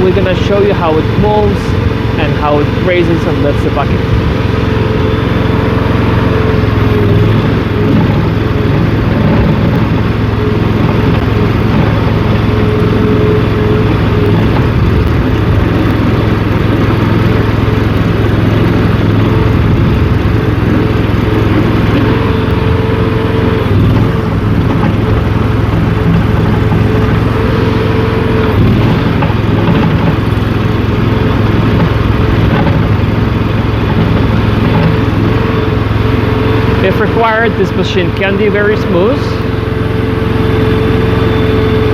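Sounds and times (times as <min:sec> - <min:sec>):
small gasoline engine running: 0:00.0 - 0:41.9
steady mechanical whine: 0:00.0 - 0:41.9.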